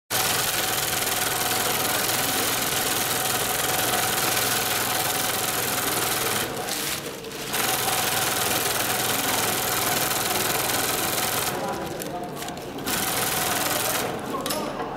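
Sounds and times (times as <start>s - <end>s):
sewing machine running: 0.1s - 14.4s.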